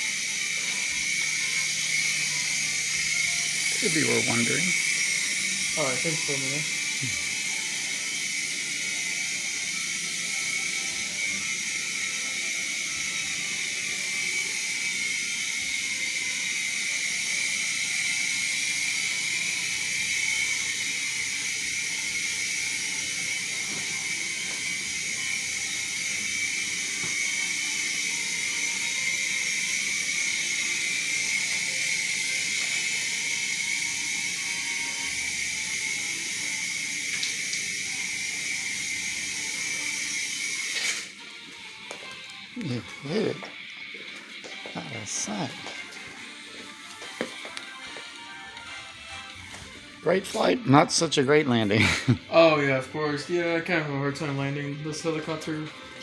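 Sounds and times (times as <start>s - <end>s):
toy helicopter rotor whir: 0.0s - 56.0s.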